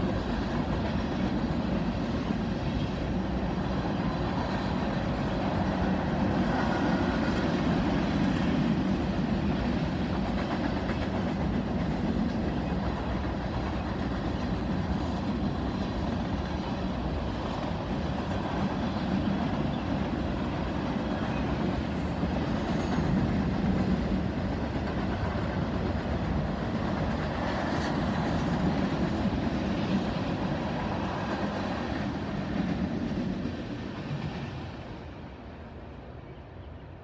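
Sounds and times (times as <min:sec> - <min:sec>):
freight train cars rolling: 0:00.0 - 0:36.8.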